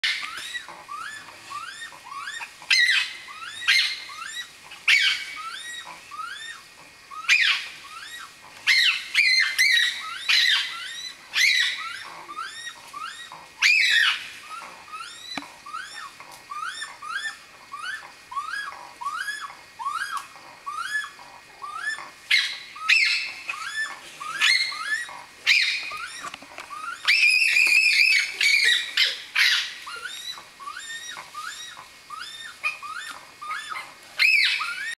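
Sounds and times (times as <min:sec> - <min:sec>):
harsh squawking calls: 0:00.0 - 0:34.9.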